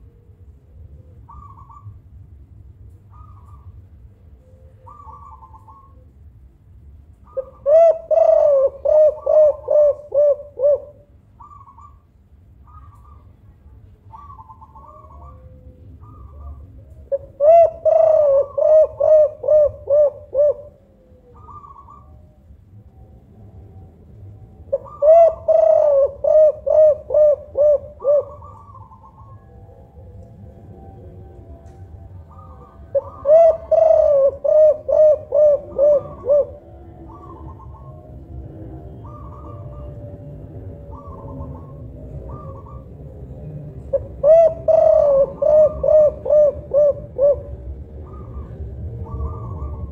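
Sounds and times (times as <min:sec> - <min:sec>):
dove cooing: 0:00.0 - 0:02.0, 0:02.9 - 0:06.3, 0:07.2 - 0:22.6, 0:24.6 - 0:49.9
faint higher cooing: 0:07.2 - 0:22.6, 0:23.5 - 0:49.9.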